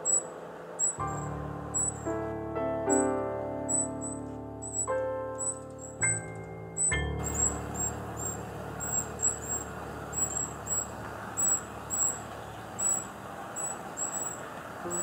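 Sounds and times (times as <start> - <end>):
distant traffic hum: 0.0 - 15.0
hummingbird chip notes: 0.0 - 15.0.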